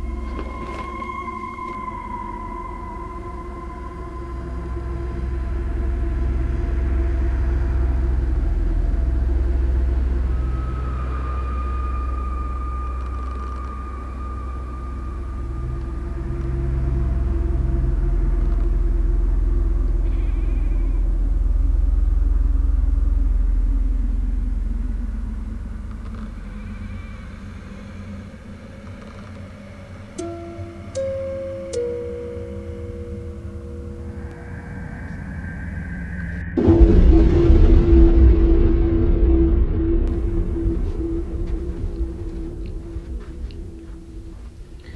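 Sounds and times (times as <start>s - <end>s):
deep steady rumble: 0.0s - 44.9s
eerie held tones: 0.0s - 44.9s.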